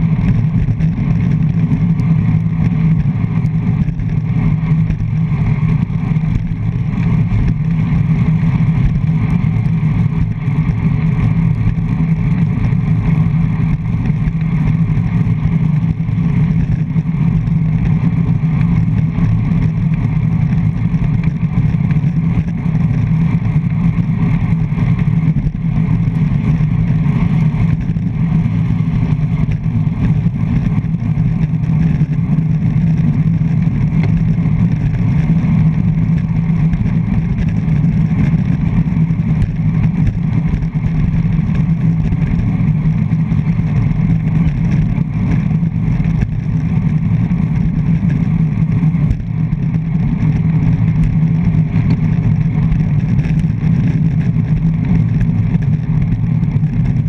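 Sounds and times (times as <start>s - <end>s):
road vibration: 0.0s - 57.0s
wind rumble: 0.0s - 57.0s.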